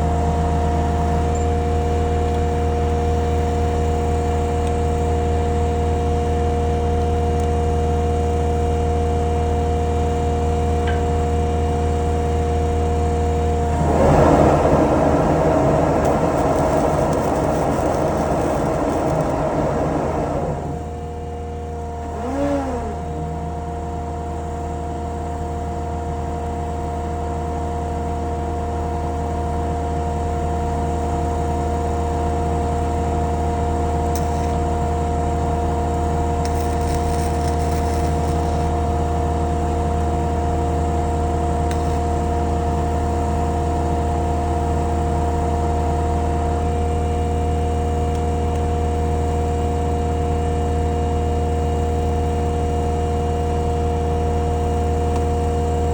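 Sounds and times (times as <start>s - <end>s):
engine running with low hum: 0.0s - 25.2s, 33.0s - 55.9s.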